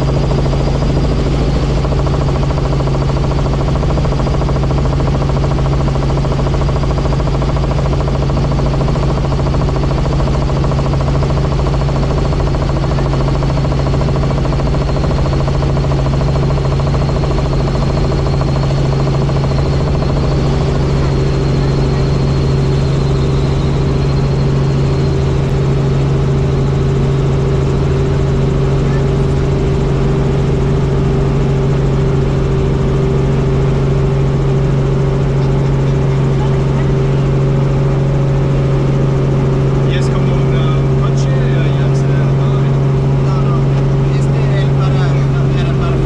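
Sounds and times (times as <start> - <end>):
helicopter engine and rotor drone: 0.0 - 46.0.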